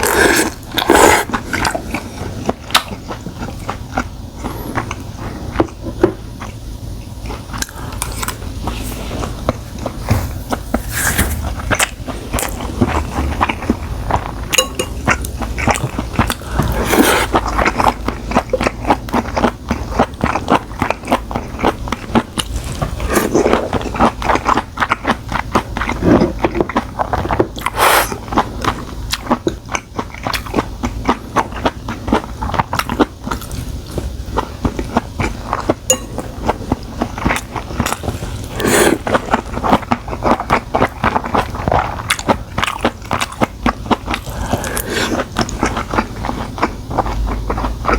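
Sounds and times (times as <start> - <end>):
close chewing and biting: 7.2 - 47.9.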